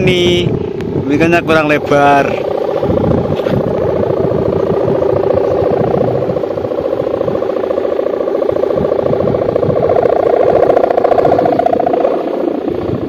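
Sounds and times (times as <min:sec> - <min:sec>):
kite hummer droning: 0:00.0 - 0:13.0.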